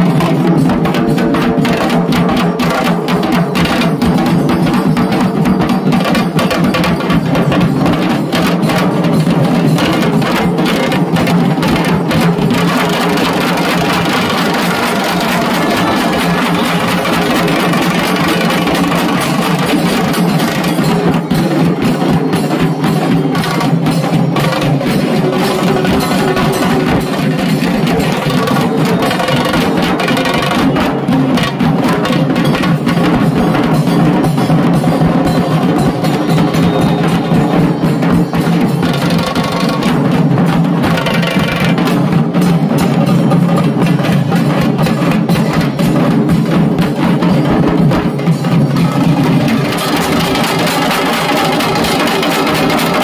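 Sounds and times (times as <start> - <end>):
large drums beaten rapidly: 0.0 - 53.0
small drum: 0.0 - 53.0.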